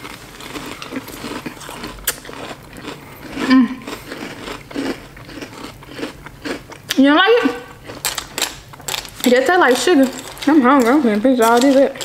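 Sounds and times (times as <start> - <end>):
chewing crunchy cereal: 0.0 - 12.0.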